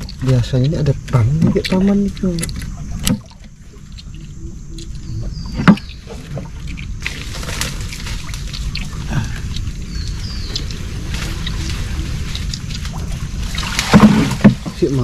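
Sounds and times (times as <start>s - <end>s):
steady low rumble: 0.0s - 15.0s
water lapping against boat hull: 0.0s - 15.0s.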